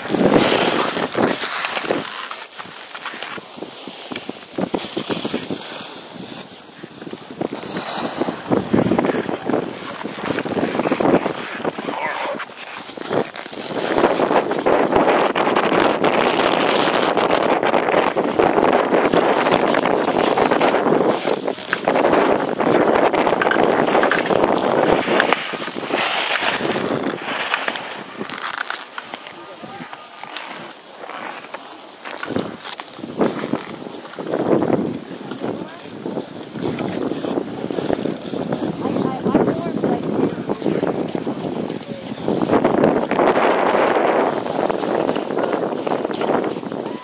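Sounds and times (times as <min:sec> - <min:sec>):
skis scraping on snow: 0:00.0 - 0:47.0
wind buffeting microphone: 0:03.5 - 0:28.6, 0:32.2 - 0:47.0.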